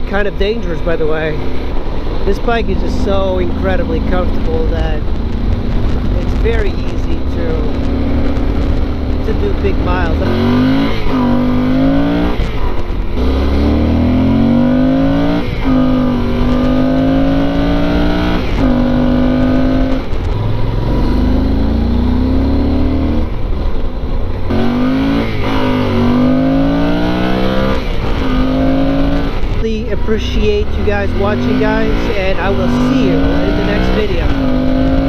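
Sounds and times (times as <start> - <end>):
motorcycle engine revving through gears: 0.0 - 35.0.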